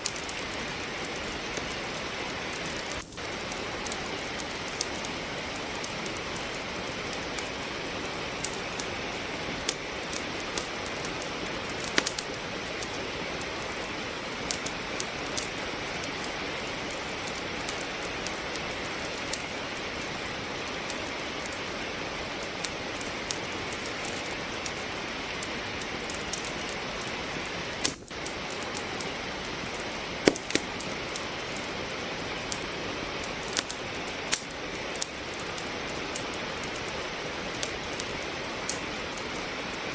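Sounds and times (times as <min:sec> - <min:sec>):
steady rain hissing: 0:00.0 - 0:39.9
wood fire crackling and popping: 0:00.0 - 0:39.9.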